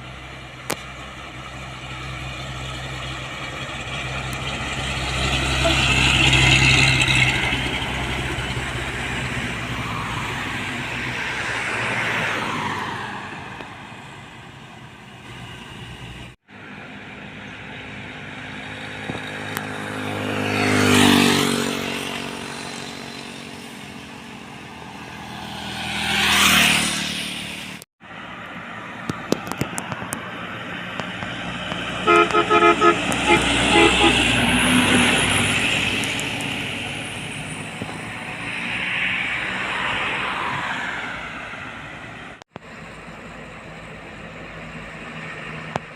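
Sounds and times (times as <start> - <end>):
heavy vehicles passing: 0.0 - 45.9.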